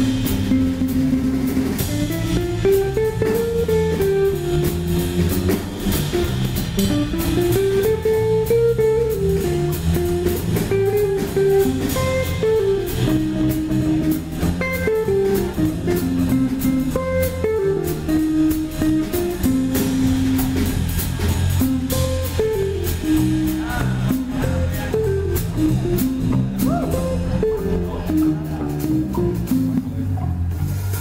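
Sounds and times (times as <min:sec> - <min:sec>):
guitar melody: 0:00.0 - 0:30.8
drum kit cymbals: 0:00.0 - 0:31.0
walking electric bass: 0:00.0 - 0:31.0.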